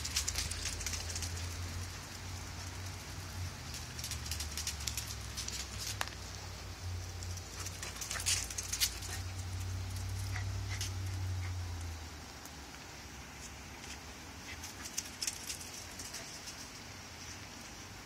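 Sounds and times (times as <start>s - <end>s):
puppy claws clicking on concrete: 0.0s - 6.5s, 7.1s - 12.8s, 13.4s - 16.8s.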